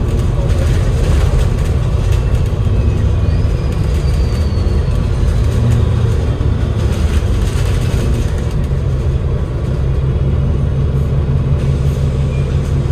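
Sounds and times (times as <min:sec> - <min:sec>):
bus diesel engine running: 0:00.0 - 0:12.9.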